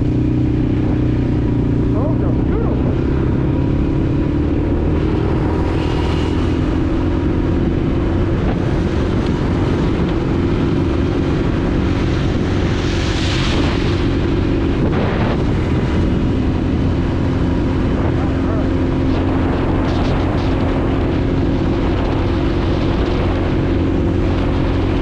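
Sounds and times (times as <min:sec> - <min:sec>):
quad bike engine running: 0:00.0 - 0:25.0
wind rumbling on microphone: 0:00.0 - 0:25.0.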